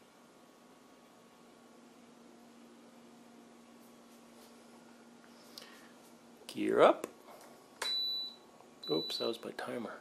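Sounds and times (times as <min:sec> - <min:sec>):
faint steady hum and hiss: 0:00.0 - 0:10.0.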